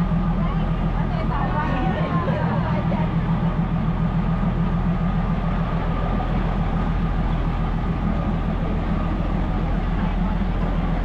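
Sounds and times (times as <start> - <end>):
diesel engine rumbling at low revs: 0.0 - 11.0.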